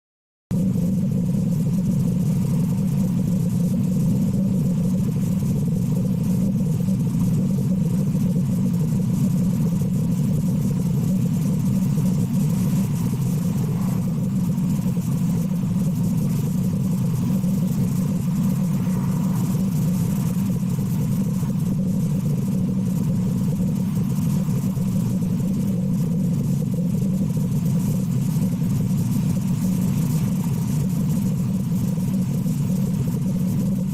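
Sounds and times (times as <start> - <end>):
steady low drone: 0.5 - 33.9.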